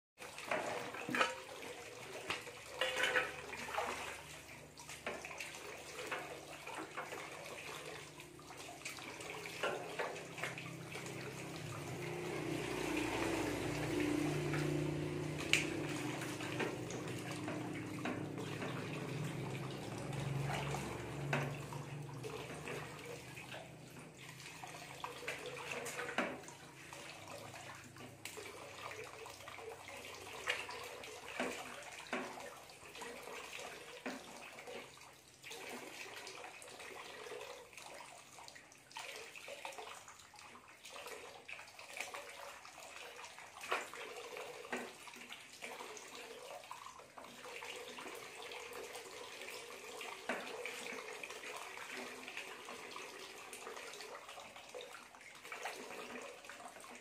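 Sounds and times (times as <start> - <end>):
splashes of hands washing: 0.2 - 57.0
water pouring from a hose: 0.2 - 57.0.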